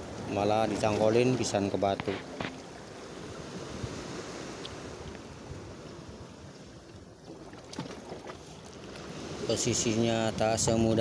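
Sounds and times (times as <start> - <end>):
waves lapping against rocks: 0.0 - 10.9.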